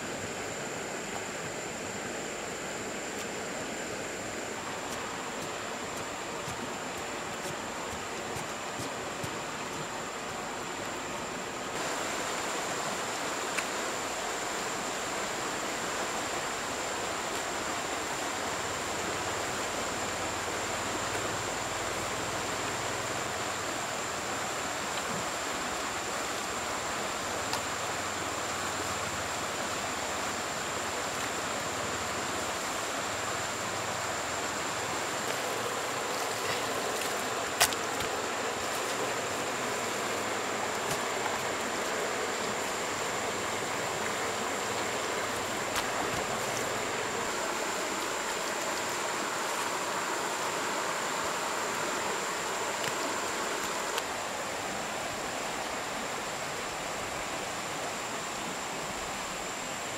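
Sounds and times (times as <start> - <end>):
flowing river water: 0.0 - 59.9.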